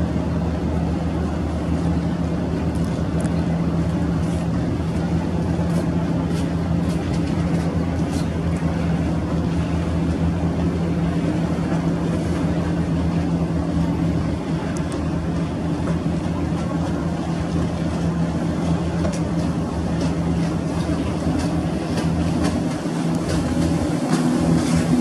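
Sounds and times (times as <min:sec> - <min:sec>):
boat engine droning: 0:00.0 - 0:25.0
water wash: 0:00.0 - 0:25.0.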